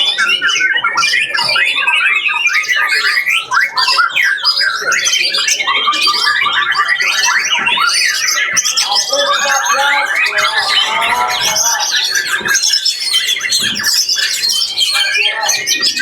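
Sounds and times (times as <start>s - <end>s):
songbirds singing chorus: 0.0s - 16.0s.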